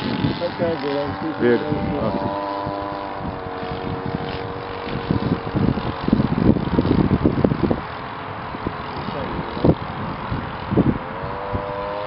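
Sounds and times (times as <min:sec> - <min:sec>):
model aircraft engine droning: 0:00.0 - 0:12.0
wind buffeting microphone: 0:00.0 - 0:12.0.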